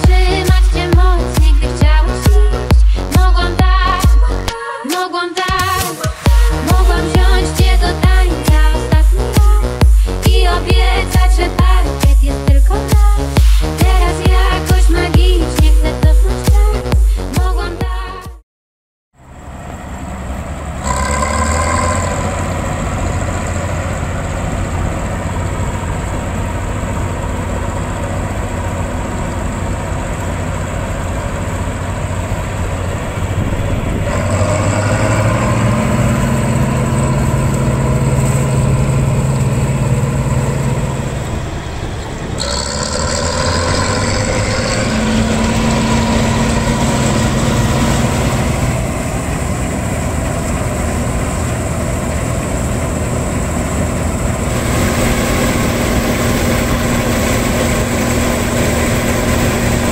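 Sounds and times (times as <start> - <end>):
diesel engine running: 0.0 - 4.6, 5.5 - 18.4, 19.2 - 59.9.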